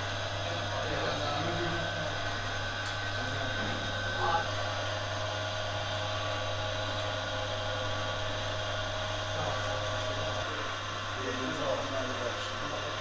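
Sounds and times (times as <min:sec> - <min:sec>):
dough mixer motor hum: 0:00.0 - 0:13.0.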